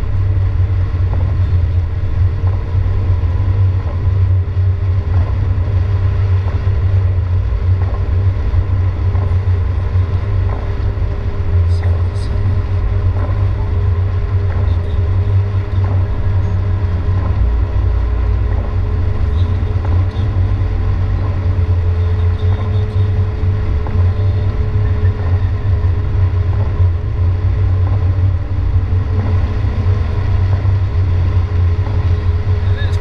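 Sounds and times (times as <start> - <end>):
car rumble on wet road: 0.0 - 33.0
steady hum: 0.0 - 33.0.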